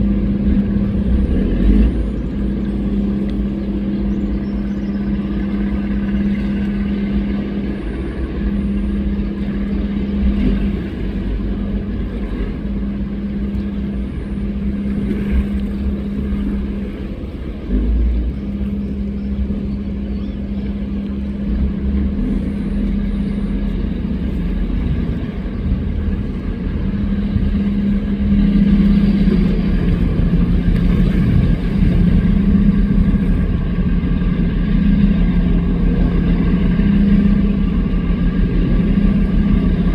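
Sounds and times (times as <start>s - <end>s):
speedboat engine drone: 0.0s - 39.9s
water noise: 0.0s - 39.9s.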